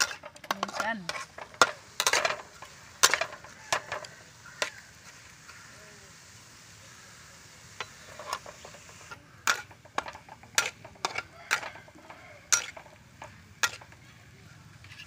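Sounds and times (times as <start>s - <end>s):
shrimps sizzling: 0.0s - 15.0s.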